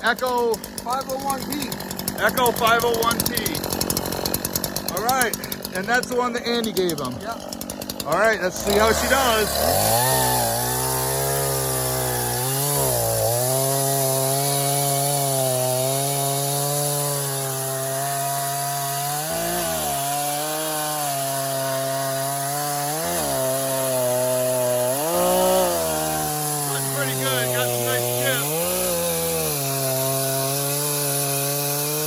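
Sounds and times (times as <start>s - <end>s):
chainsaw cutting log: 0.0s - 32.0s.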